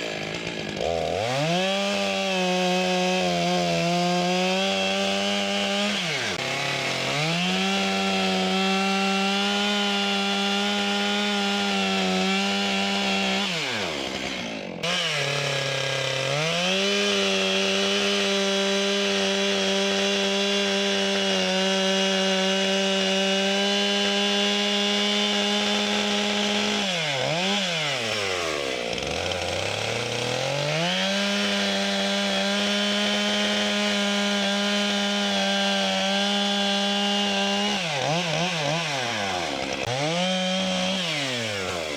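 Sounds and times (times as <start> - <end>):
chainsaw cutting wood: 0.0 - 41.9
chainsaw idling and revving: 0.0 - 41.9.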